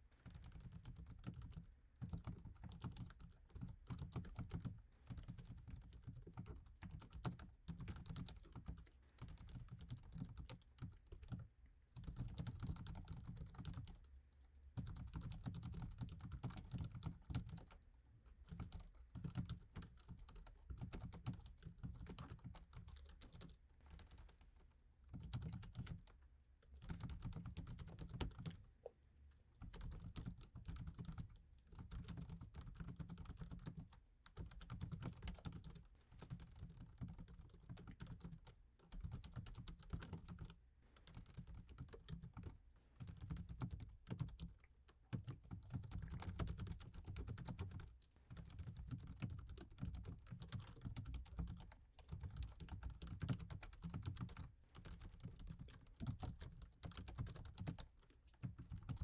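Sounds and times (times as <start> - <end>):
fast typing on keyboard: 0.2 - 11.4, 12.0 - 14.0, 14.8 - 17.8, 18.4 - 24.5, 25.1 - 26.1, 26.8 - 28.6, 29.6 - 59.0.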